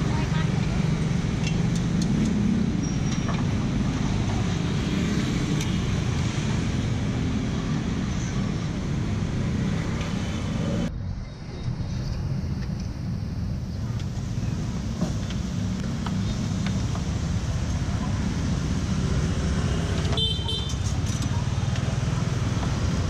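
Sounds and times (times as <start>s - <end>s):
roadside traffic: 0.0s - 23.0s.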